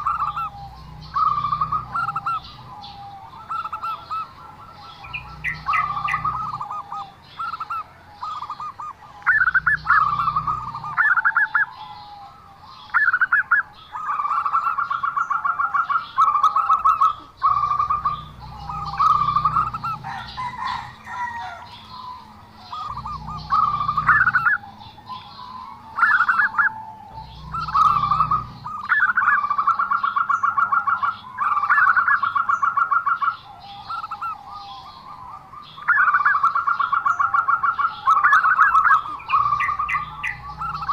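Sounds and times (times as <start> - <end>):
dove cooing: 0.0 - 40.9
small birds chirping faintly: 0.0 - 40.9.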